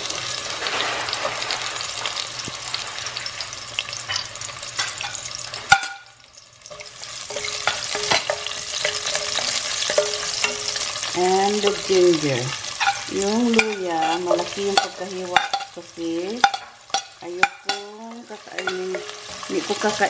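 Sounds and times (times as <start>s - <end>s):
onion sizzling in hot oil: 0.0s - 20.0s.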